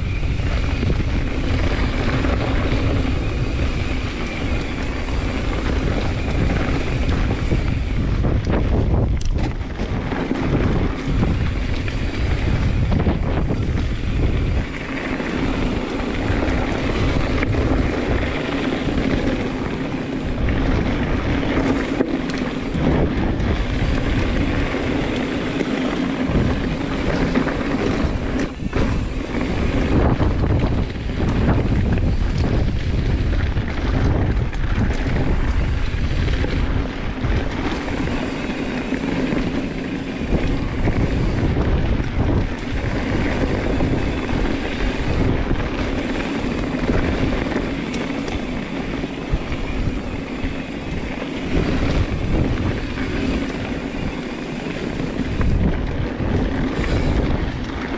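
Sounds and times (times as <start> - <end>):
bike rattling and knocking: 0.0 - 57.9
wind buffeting microphone: 0.0 - 57.9.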